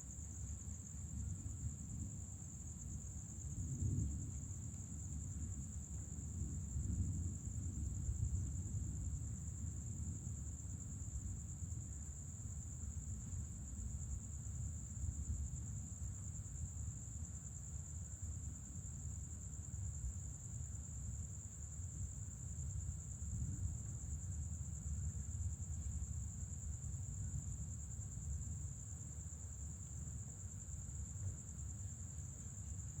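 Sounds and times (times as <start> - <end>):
night insects trilling: 0.1 - 33.0.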